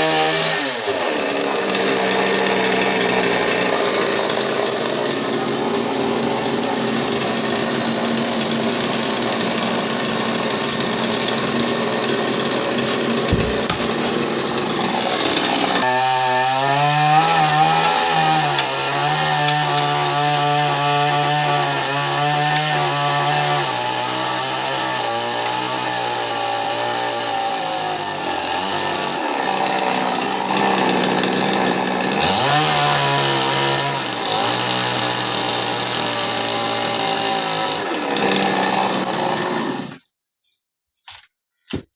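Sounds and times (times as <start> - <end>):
chainsaw cutting tree trunk: 0.0 - 40.1.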